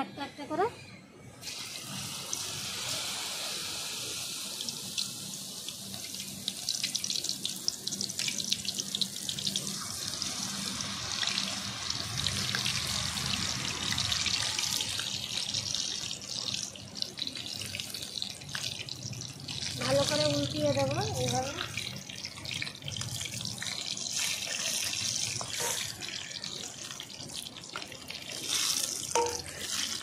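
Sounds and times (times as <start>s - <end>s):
deep-frying sizzle with pops: 1.4s - 30.0s.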